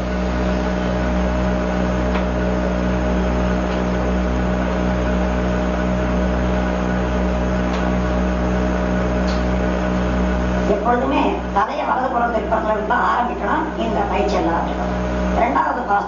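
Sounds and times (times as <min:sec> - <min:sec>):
pulsing low throb: 0:00.0 - 0:16.0
steady hum and hiss: 0:00.0 - 0:16.0.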